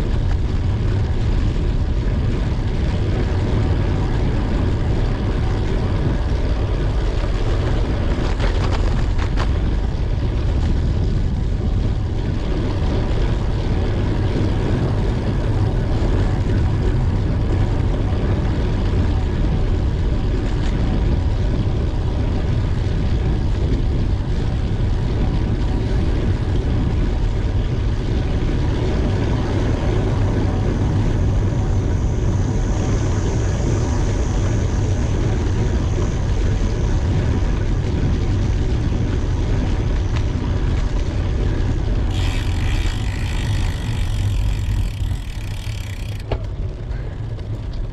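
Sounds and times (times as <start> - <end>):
bicycle road noise: 0.0 - 47.9
wind rush on microphone: 0.0 - 47.9.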